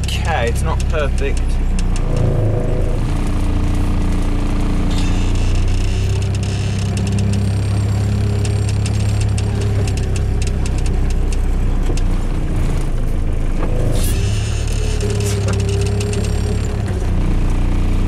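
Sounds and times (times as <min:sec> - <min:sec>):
rattling ticks: 0:00.0 - 0:03.4, 0:04.9 - 0:17.0
truck engine droning: 0:00.0 - 0:18.0.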